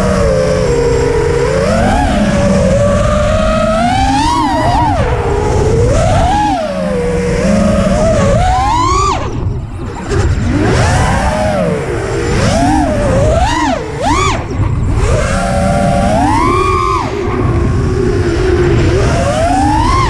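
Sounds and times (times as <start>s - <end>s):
quadcopter motors screaming: 0.0s - 20.0s.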